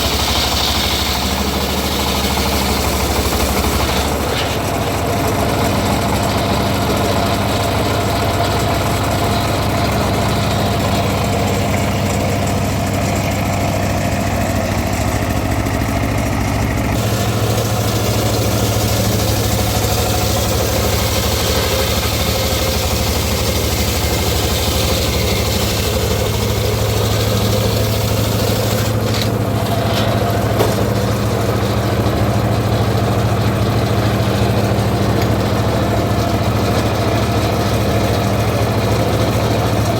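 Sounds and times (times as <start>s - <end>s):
saw rig engine running: 0.0s - 39.9s.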